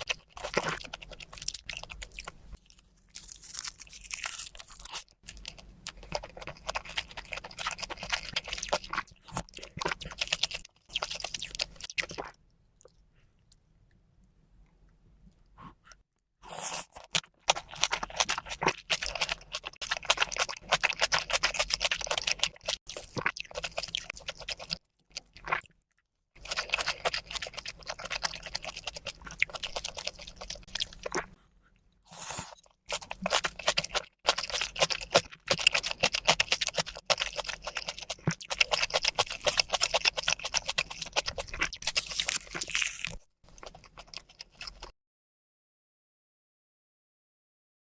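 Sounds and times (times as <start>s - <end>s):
person chewing crunchy food: 0.0s - 13.6s, 14.6s - 25.8s, 26.4s - 44.9s.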